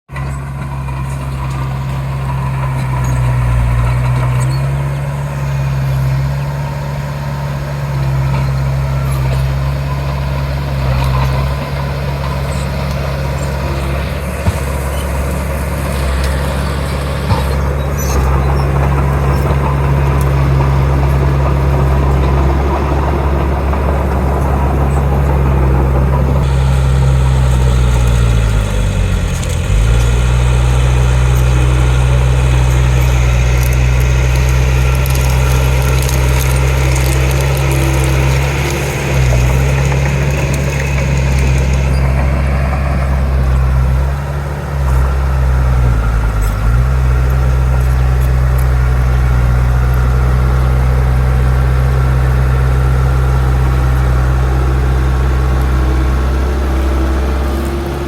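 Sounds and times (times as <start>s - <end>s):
diesel machinery engine drone: 0.1s - 58.0s.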